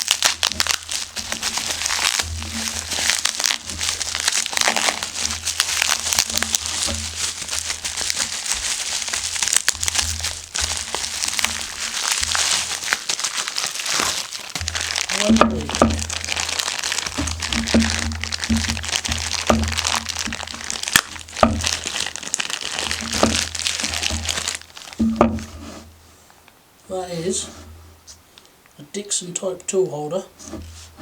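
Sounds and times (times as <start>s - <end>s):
packaging crinkling: 0.0s - 26.0s.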